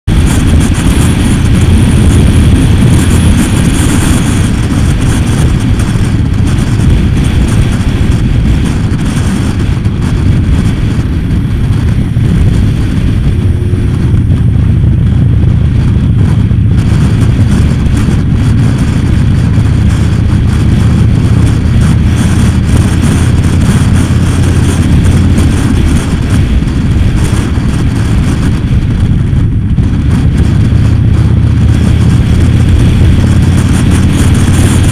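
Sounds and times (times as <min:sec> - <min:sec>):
motorcycle engine running: 0:00.0 - 0:34.9
wind rushing on microphone: 0:00.0 - 0:34.9.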